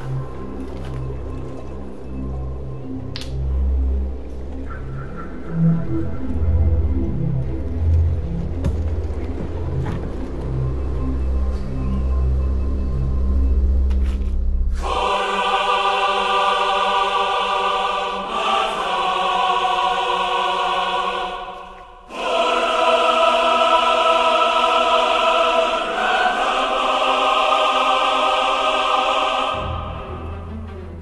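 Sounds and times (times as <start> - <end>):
choir chords soundtrack music: 0.0 - 31.0.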